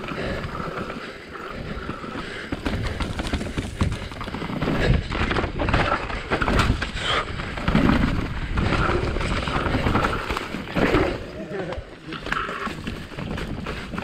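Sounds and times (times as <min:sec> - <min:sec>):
bike tyres rolling over dirt: 0:00.0 - 0:14.0.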